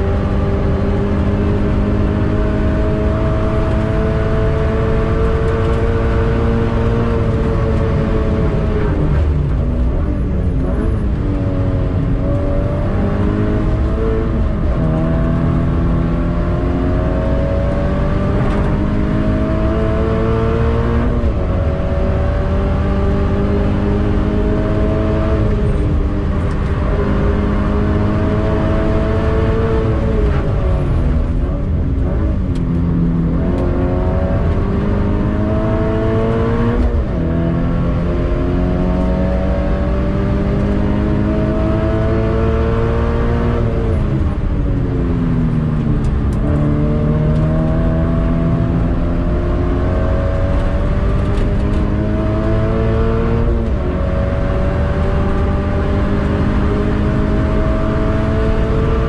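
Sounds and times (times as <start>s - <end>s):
car engine revving: 0.0s - 59.0s
road and tyre noise: 0.0s - 59.0s.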